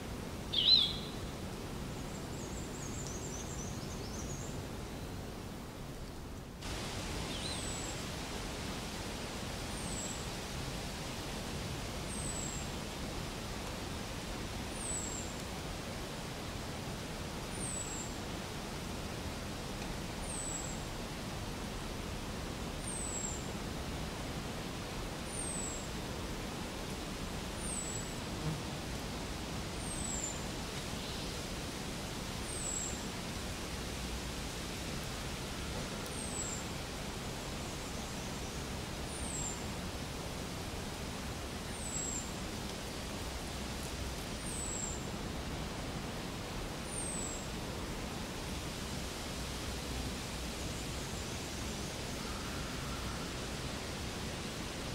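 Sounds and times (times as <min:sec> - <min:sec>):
outdoor background hiss: 0:00.0 - 0:54.9.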